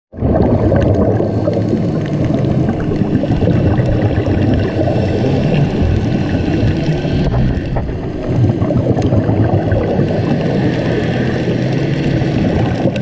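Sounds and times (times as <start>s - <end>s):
underwater rumble: 0.1s - 13.0s.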